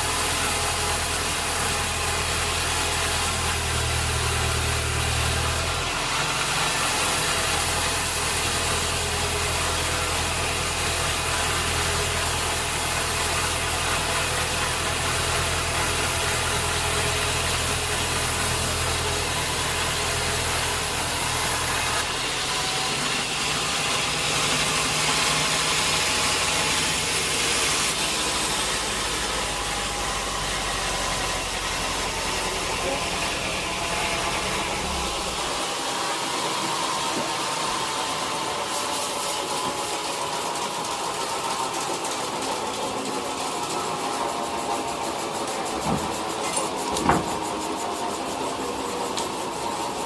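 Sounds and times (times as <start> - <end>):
sawmill machinery hiss: 0.0 - 50.0.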